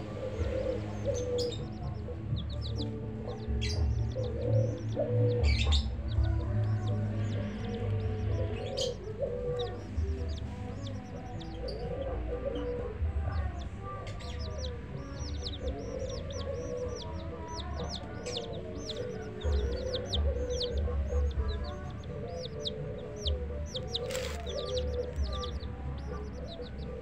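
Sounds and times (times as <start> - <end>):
chicks peeping: 0.0 - 27.0
hen clucking: 0.0 - 27.0.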